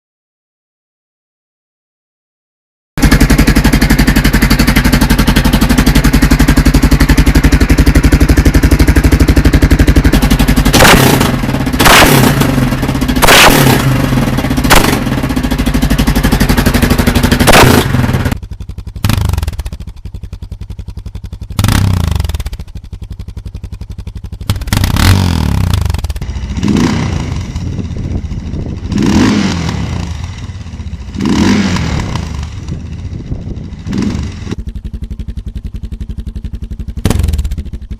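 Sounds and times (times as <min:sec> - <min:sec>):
motorcycle engine idling and revving: 0:03.0 - 0:37.9.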